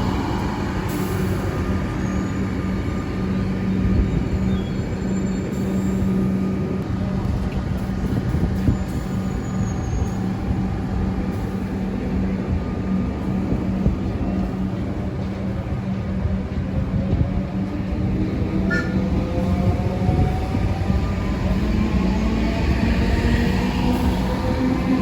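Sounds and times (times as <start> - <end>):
train rumbling with low hum: 0.0 - 25.0.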